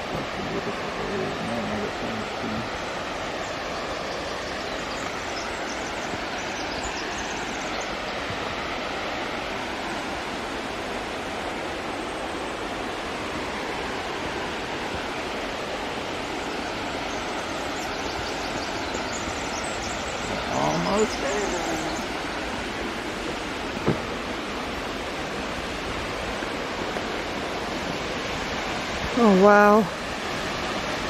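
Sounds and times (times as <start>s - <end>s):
fast-flowing creek water rushing: 0.0s - 31.0s.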